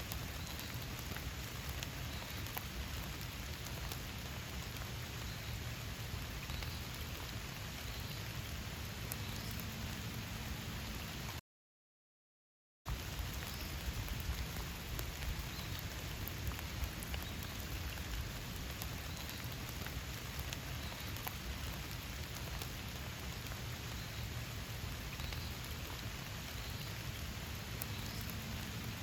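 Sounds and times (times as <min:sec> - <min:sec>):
sharp raindrop ticks: 0:00.0 - 0:11.4, 0:12.9 - 0:29.0
steady rainfall: 0:00.0 - 0:11.4, 0:12.9 - 0:29.0.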